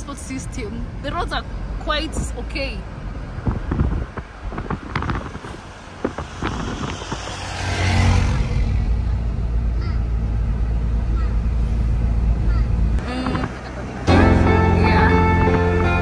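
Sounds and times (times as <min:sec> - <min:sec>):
car road rumble from inside: 0:00.0 - 0:16.0.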